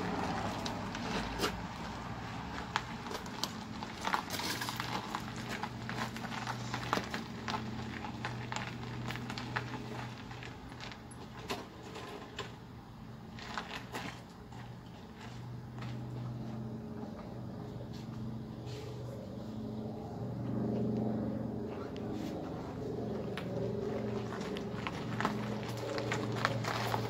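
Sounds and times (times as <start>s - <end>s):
gravel crunching under boots and tyres: 0.0s - 27.0s.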